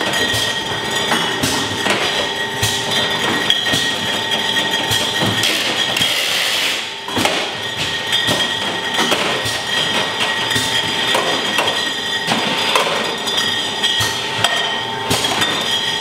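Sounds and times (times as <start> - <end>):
glass bottles clinking: 0.0 - 6.5, 7.1 - 16.0
bottling machinery whining: 0.0 - 16.0.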